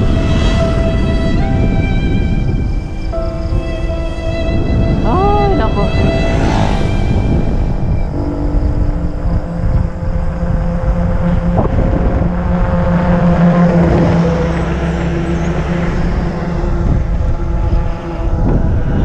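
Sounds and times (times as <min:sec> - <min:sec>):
motor vehicle engine hum: 0:00.0 - 0:19.0
wind rumble on microphone: 0:00.0 - 0:19.0.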